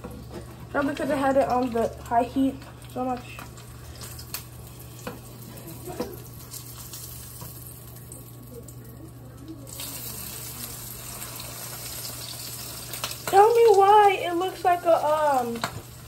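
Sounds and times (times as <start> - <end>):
egg sizzling in hot oil: 0.1 - 8.5, 9.6 - 16.0.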